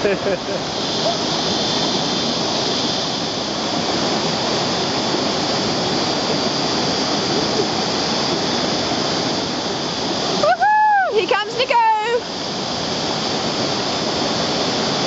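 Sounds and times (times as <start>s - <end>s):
whitewater rushing over boulders: 0.0s - 15.0s.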